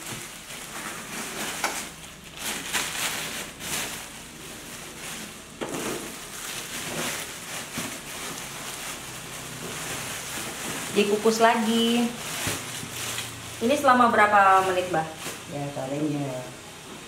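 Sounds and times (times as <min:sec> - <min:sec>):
plastic sheet crinkling: 0:00.0 - 0:16.4.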